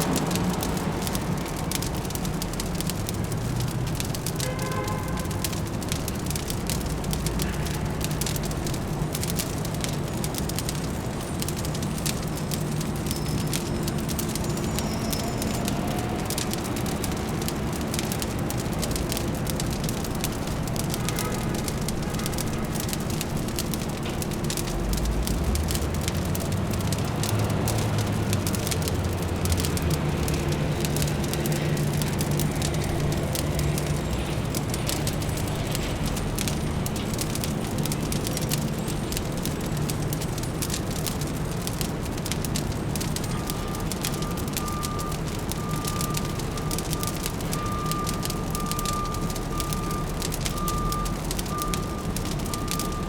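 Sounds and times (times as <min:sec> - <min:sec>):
low city hum: 0:00.0 - 0:53.0
wood fire crackling and popping: 0:00.0 - 0:53.0.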